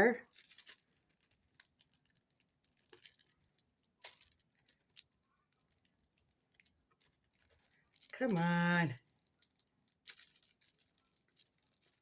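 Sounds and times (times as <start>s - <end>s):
small plastic items clicking: 0.2s - 12.0s.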